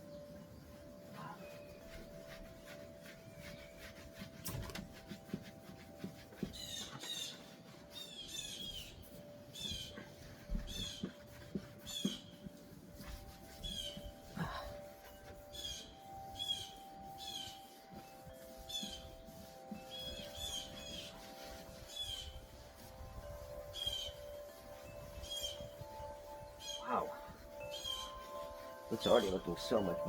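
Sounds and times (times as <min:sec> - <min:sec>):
cloth wiping wooden table: 0:00.0 - 0:30.0.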